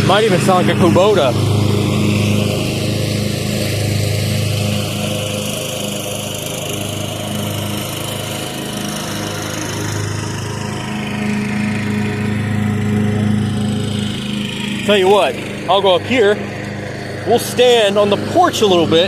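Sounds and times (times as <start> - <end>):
riding lawn mower engine: 0.0 - 19.0.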